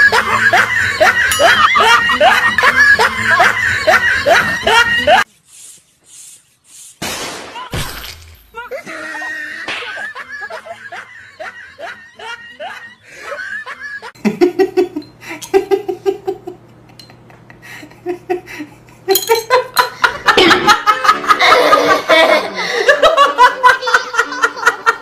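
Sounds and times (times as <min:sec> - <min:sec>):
people laughing: 0:00.0 - 0:05.3, 0:08.6 - 0:25.0.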